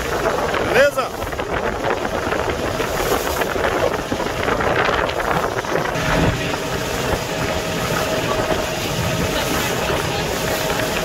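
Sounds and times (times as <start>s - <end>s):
boat engine running: 0.0s - 11.0s
wind buffeting microphone: 0.0s - 11.0s.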